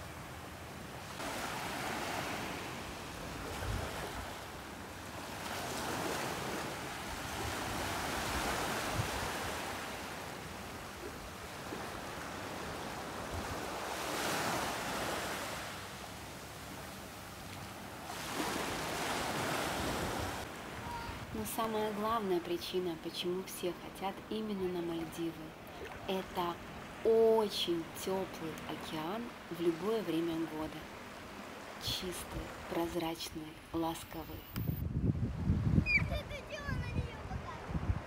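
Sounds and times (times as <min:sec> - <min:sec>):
small waves lapping on sand: 0:00.0 - 0:34.3.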